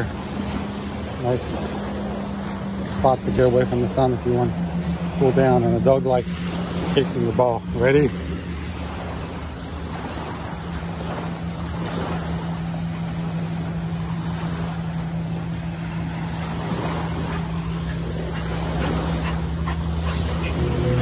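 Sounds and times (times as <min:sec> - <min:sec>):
low mechanical hum: 0:00.0 - 0:21.0
surf: 0:00.0 - 0:21.0
wind: 0:00.0 - 0:21.0.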